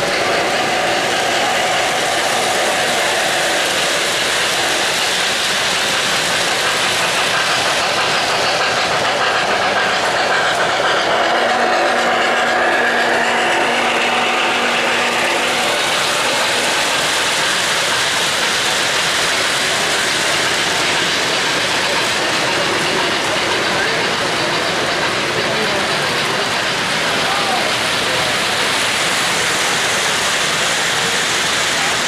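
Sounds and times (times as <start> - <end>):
model trains clattering on track: 0.0 - 32.0.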